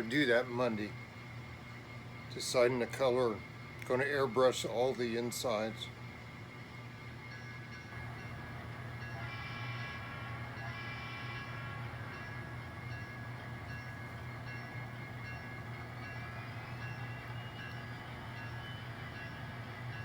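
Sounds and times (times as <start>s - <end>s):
model train engine sound: 0.0s - 20.0s.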